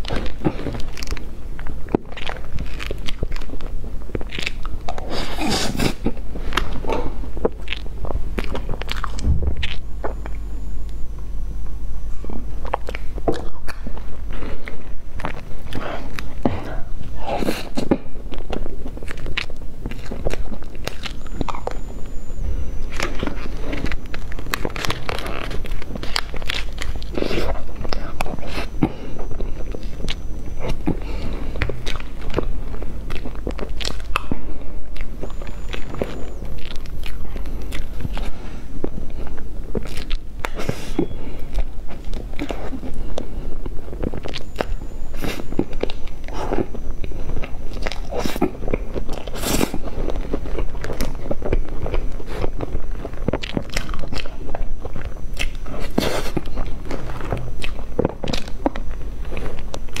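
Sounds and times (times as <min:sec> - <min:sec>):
chewing with wet clicks: 0:00.0 - 1:00.0.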